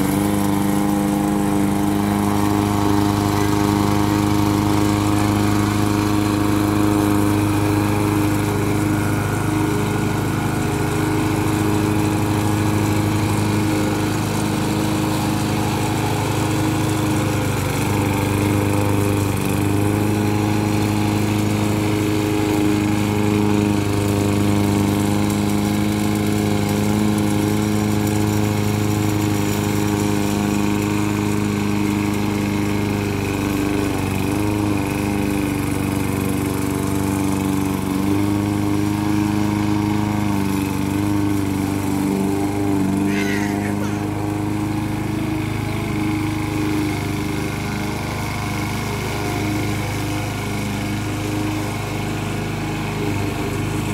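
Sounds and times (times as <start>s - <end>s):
lawn mower engine running: 0.0s - 53.9s.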